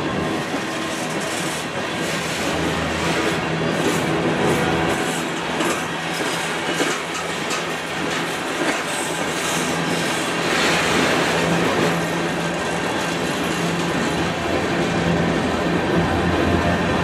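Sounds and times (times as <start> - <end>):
train wheels rumbling on rails: 0.0 - 17.0
wheels clacking over rail joints: 0.3 - 14.4.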